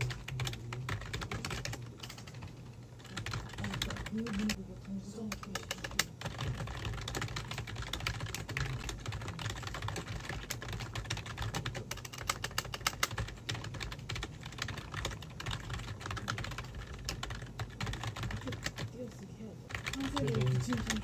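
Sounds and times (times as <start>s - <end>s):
fast typing on keyboard: 0.0s - 4.6s, 5.3s - 18.9s, 19.7s - 21.0s.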